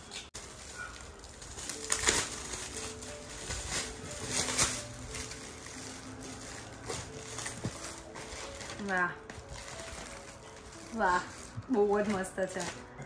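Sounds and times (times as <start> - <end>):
soft background music: 0.0 - 13.0
gift wrapping rustling: 0.3 - 13.0.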